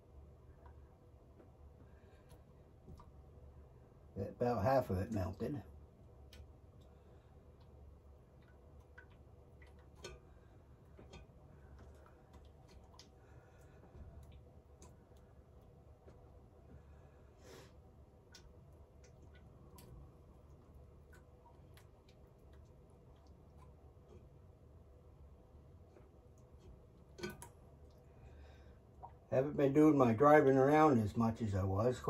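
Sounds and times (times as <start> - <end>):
faint low hum: 0.0 - 32.0.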